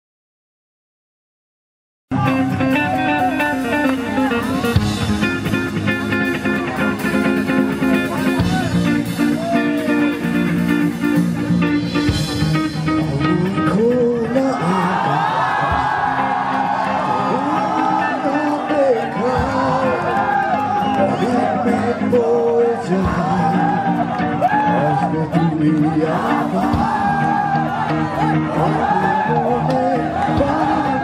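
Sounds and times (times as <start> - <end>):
bass guitar: 2.1 - 31.0
crowd noise: 2.1 - 31.0
drums: 2.1 - 31.0
electric guitar: 2.1 - 31.0.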